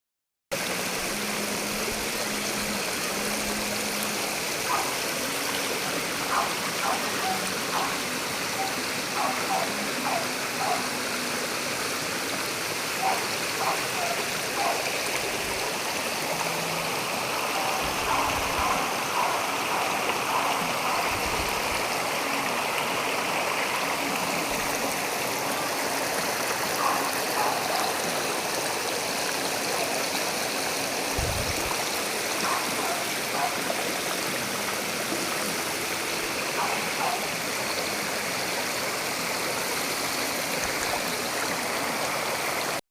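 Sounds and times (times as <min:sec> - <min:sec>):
stream water rushing: 0:00.5 - 0:42.8.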